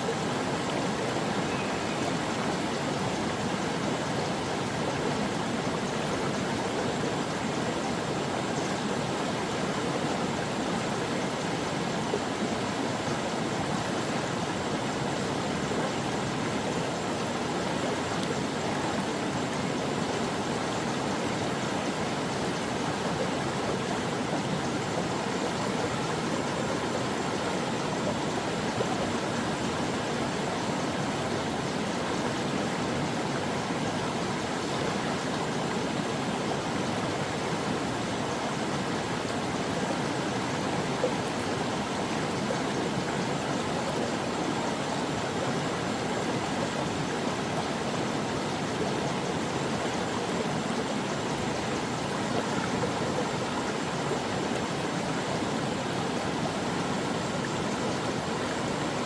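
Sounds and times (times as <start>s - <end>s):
brook flowing: 0.0s - 59.0s.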